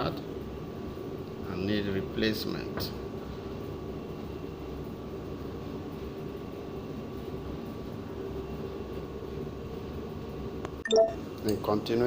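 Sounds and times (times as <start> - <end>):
mechanical hum of machinery: 0.0 - 12.0.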